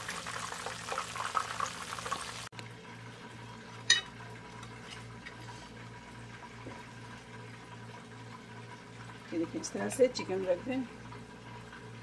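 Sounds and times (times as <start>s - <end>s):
oil frying: 0.0s - 12.0s.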